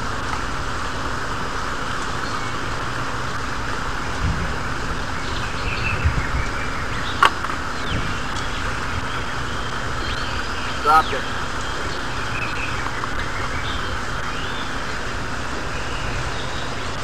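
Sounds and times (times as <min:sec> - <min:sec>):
river flowing over rocks: 0:00.0 - 0:05.7, 0:06.5 - 0:17.0.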